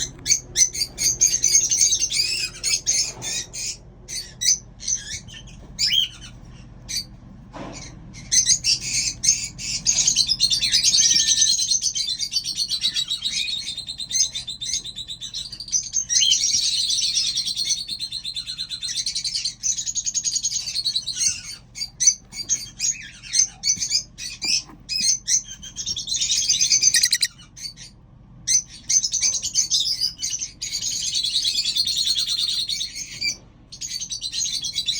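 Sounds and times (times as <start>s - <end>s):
pet birds chirping and chattering: 0.0s - 34.9s.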